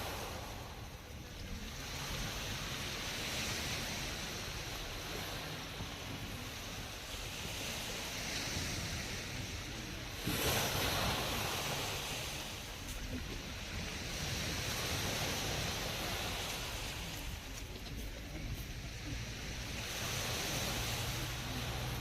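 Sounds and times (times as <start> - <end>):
wave breaking: 0.0 - 22.0
waves washing onto shore: 0.0 - 22.0.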